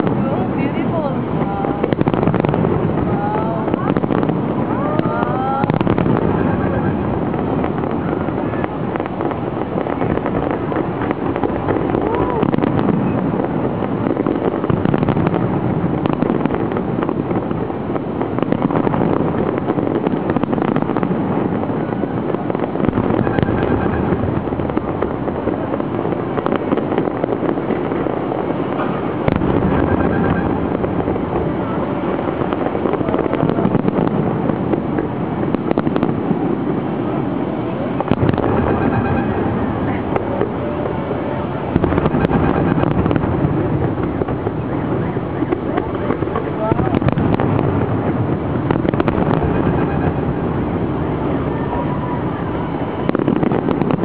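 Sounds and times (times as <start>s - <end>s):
fireworks booming: 0.0s - 54.0s
sharp firework cracks: 1.6s - 54.0s.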